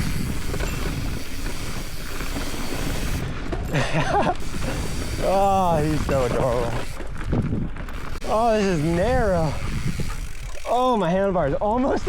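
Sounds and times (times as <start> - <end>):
bike tyre and frame rattle: 0.0 - 12.0
wind rush on microphone: 0.0 - 12.0.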